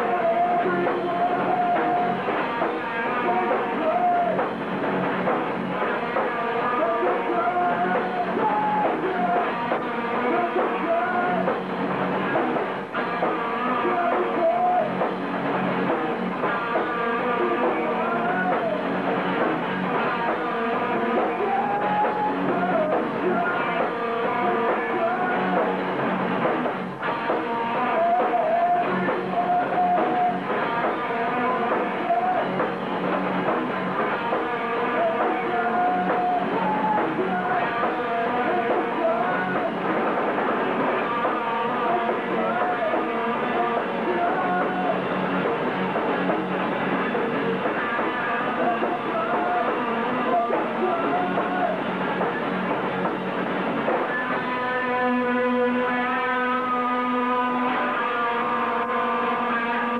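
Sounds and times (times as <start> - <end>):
person singing: 0.0 - 4.6, 5.8 - 11.6, 12.3 - 15.1, 16.4 - 19.2, 20.0 - 26.0, 27.1 - 32.7, 33.6 - 46.0, 46.8 - 52.6, 54.0 - 59.9
drum kit: 0.0 - 59.9
electric guitar: 0.0 - 59.9.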